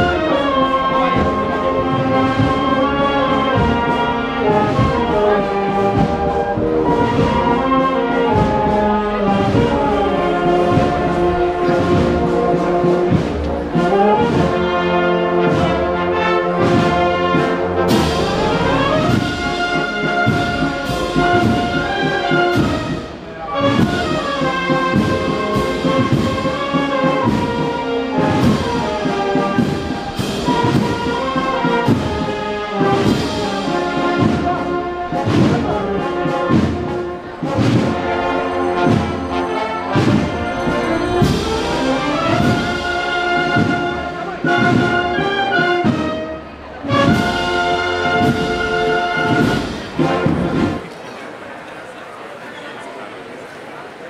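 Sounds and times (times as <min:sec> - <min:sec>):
drum strokes: 0:00.0 - 0:15.8, 0:16.5 - 0:51.0
brass band march: 0:00.0 - 0:54.0.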